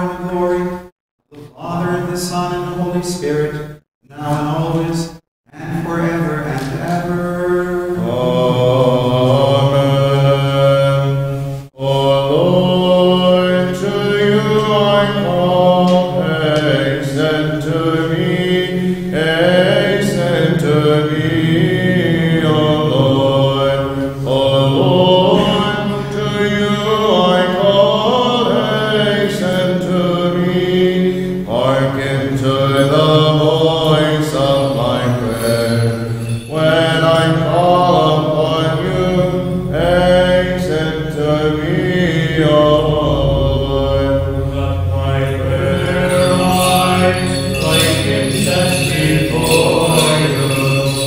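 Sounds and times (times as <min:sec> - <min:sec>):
men chanting a hymn in unison: 0:04.1 - 0:51.0.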